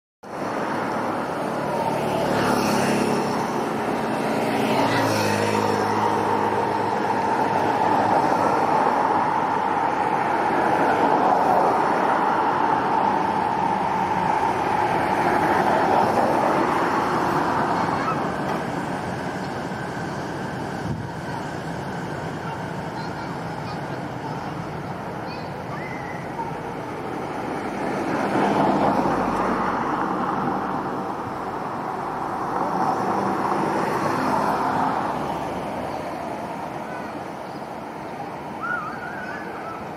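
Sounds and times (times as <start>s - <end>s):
road traffic noise: 0.2s - 39.9s
passing vehicle engine hum: 0.3s - 39.9s.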